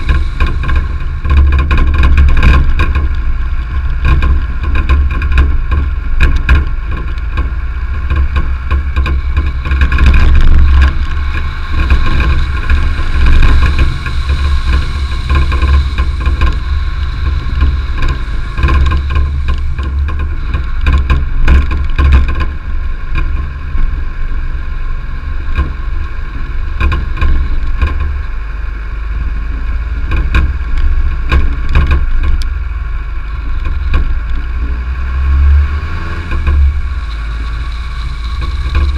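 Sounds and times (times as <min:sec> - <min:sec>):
stones clicking against car: 0:00.0 - 0:24.0, 0:25.4 - 0:28.4, 0:29.5 - 0:38.9
car engine running: 0:00.0 - 0:38.9
tyres rumbling on gravel: 0:00.0 - 0:38.9.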